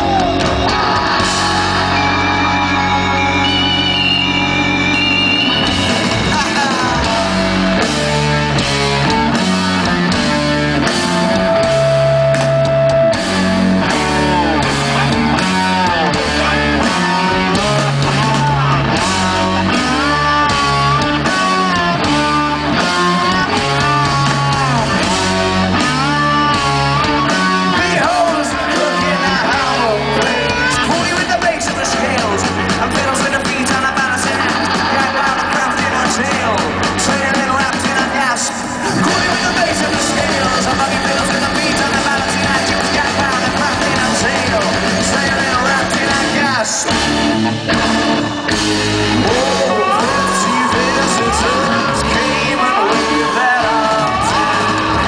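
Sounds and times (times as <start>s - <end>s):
bass guitar: 0.0s - 55.0s
distorted electric guitar: 0.0s - 55.0s
driving drum beat: 0.0s - 55.0s.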